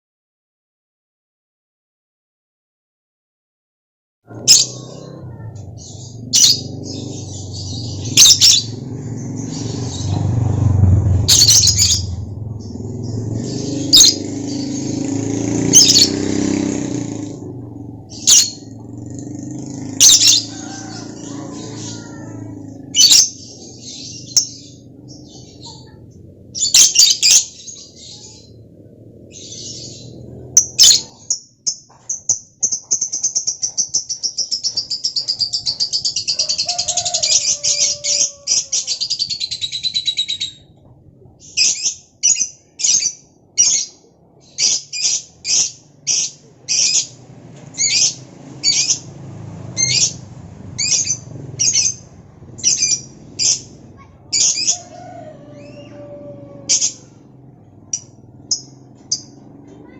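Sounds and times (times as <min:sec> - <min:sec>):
bird trilling rapidly: 0:04.3 - 0:31.4, 0:32.2 - 0:40.8, 0:41.4 - 0:59.9
bird chirping: 0:04.3 - 0:40.8, 0:41.4 - 0:59.9.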